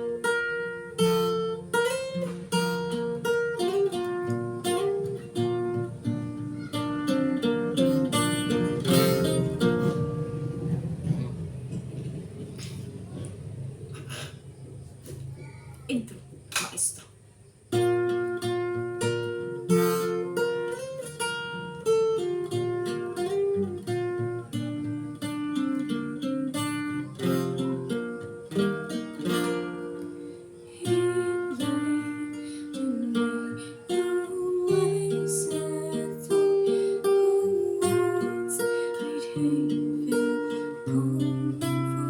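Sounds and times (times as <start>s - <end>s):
acoustic guitar playing: 0.0s - 15.8s, 17.7s - 42.0s.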